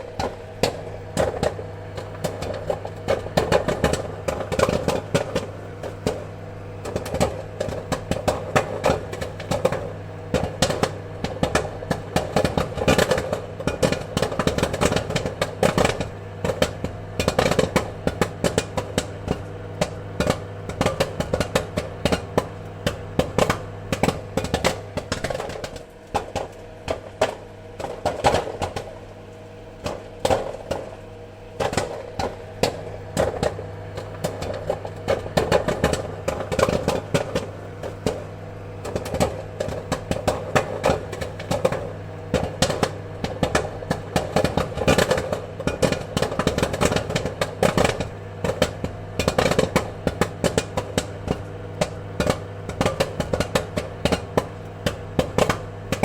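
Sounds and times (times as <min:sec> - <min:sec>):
popcorn popping: 0:00.0 - 0:56.0.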